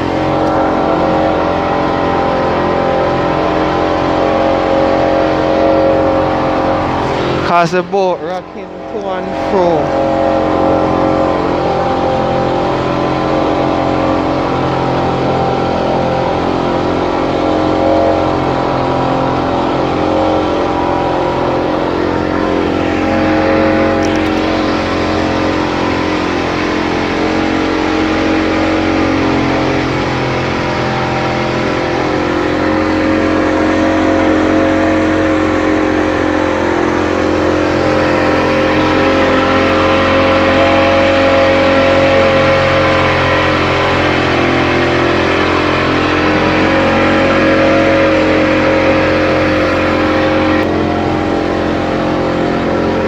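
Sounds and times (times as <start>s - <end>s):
speedboat engine running: 0.0s - 53.0s.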